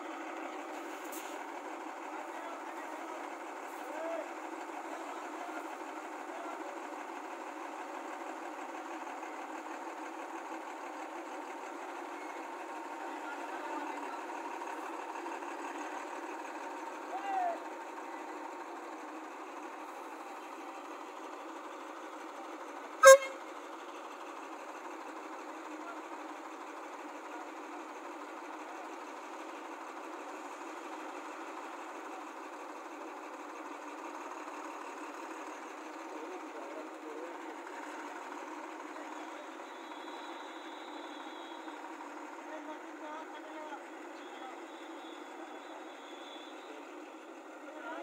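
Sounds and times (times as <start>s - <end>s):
heavy diesel machinery running: 0.0s - 48.0s.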